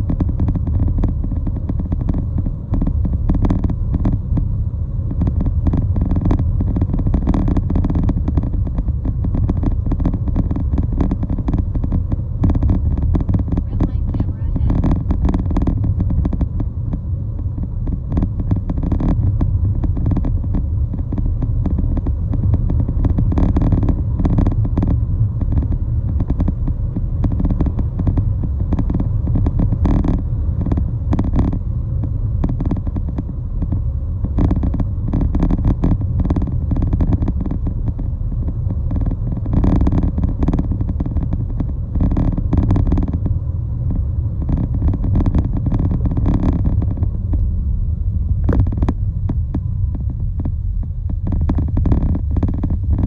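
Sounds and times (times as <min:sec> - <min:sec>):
vehicle rumbling: 0:00.0 - 0:53.0.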